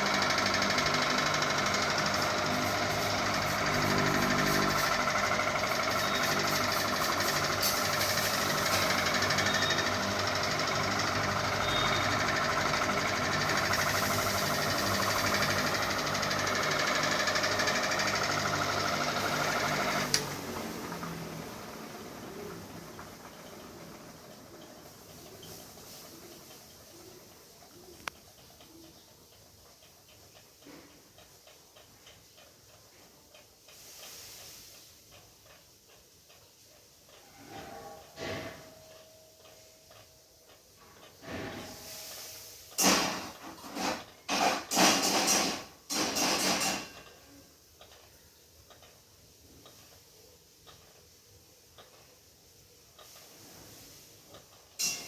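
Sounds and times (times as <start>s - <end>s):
ceiling fan running: 0.0s - 55.0s.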